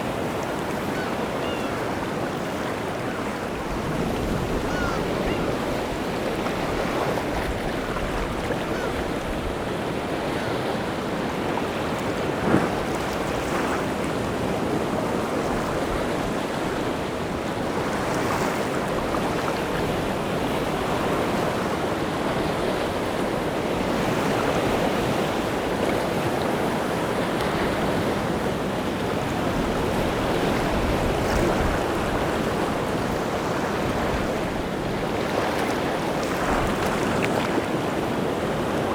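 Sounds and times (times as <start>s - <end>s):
sea surf breaking on shore: 0.0s - 38.9s.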